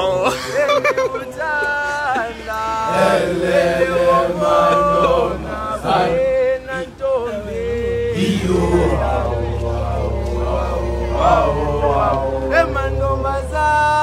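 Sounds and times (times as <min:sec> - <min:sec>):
boys singing unaccompanied: 0:00.0 - 0:14.0.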